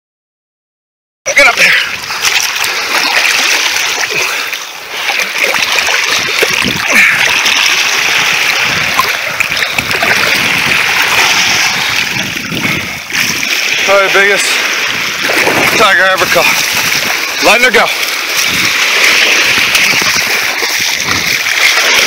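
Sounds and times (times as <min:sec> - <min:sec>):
surf water splashing: 0:01.3 - 0:22.0.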